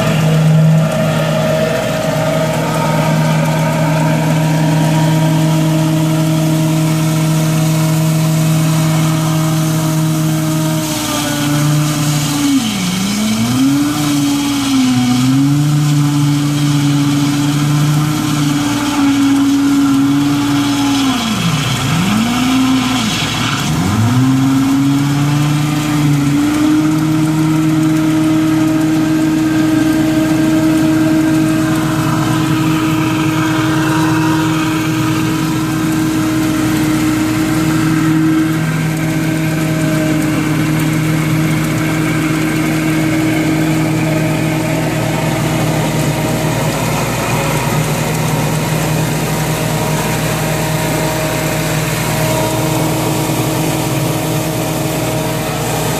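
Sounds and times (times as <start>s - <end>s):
hydro jetter engine hum: 0.0s - 55.9s
water jet rushing: 0.0s - 55.9s.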